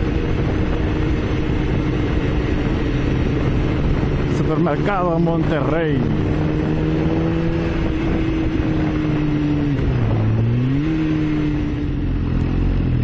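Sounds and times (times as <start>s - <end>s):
motorcycle engine cruising: 0.0s - 13.0s
wind noise: 0.0s - 13.0s.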